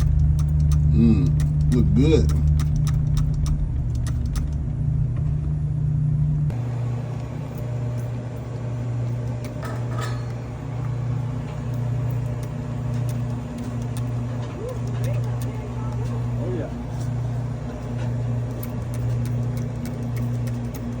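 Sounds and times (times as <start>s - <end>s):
low machinery hum: 0.0s - 21.0s.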